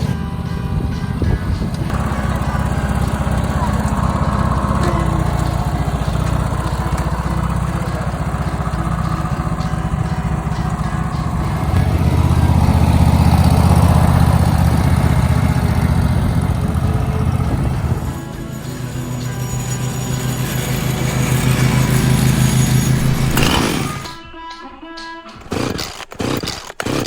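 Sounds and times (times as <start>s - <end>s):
lawn mower engine running: 0.0s - 24.3s, 25.3s - 27.0s.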